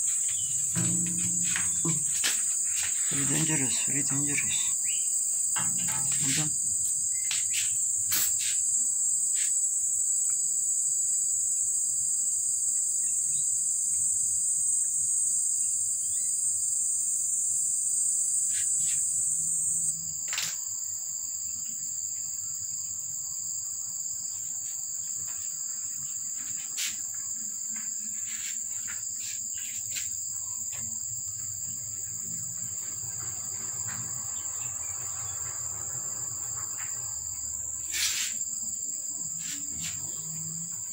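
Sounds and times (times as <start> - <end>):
shrill insect chorus: 0.0 - 40.9.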